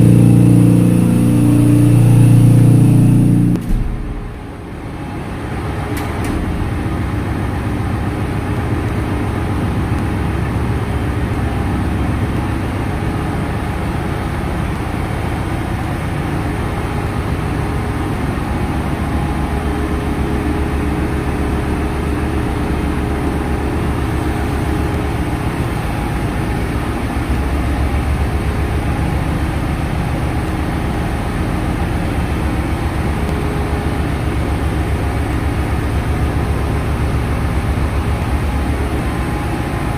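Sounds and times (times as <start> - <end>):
engine-room machinery droning: 0.0 - 39.9.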